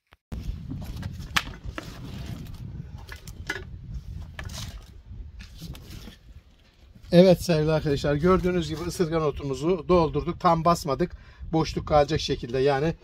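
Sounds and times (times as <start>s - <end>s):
wind rumble on microphone: 0.3s - 13.0s.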